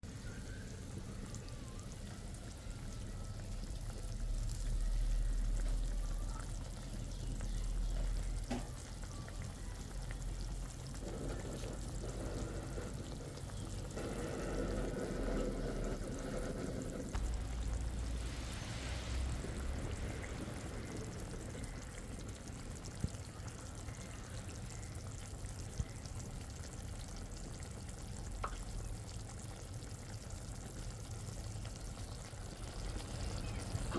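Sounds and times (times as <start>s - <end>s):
sizzling in a pan: 0.0s - 33.9s
liquid pouring into a pot: 2.0s - 33.9s.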